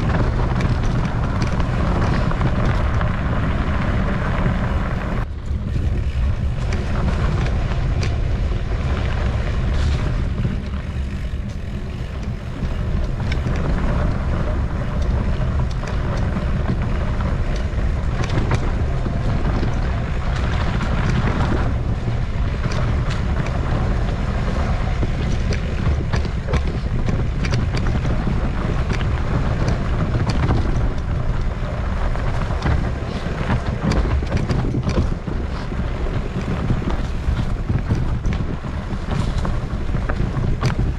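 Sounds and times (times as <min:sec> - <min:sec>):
mountain bike knocks and rattles: 0:00.0 - 0:40.9
wind buffeting microphone: 0:00.0 - 0:40.9.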